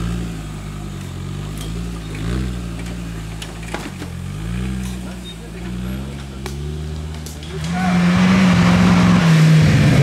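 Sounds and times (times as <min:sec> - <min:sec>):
buggy engine running at low revs: 0:00.0 - 0:10.0.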